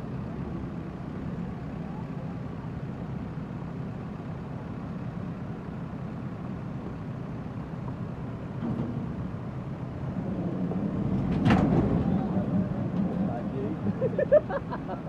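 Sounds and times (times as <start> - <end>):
diesel engine rumbling under load: 0.0 - 15.0.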